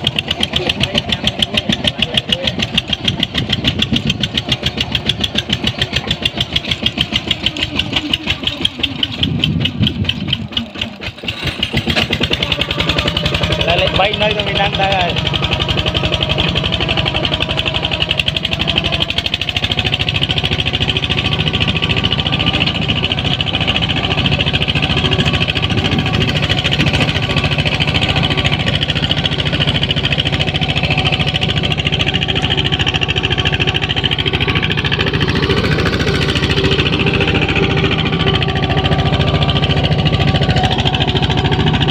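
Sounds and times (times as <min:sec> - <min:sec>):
tractor diesel engine knocking: 0:00.0 - 0:41.9.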